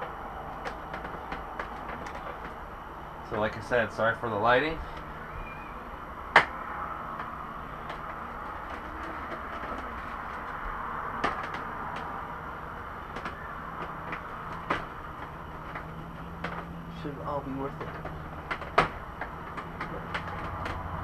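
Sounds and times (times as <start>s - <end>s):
steady hiss and low hum: 0.0s - 21.0s.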